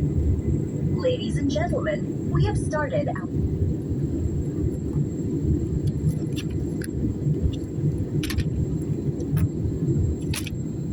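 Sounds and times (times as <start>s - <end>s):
airliner cabin engine rumble: 0.0s - 10.9s.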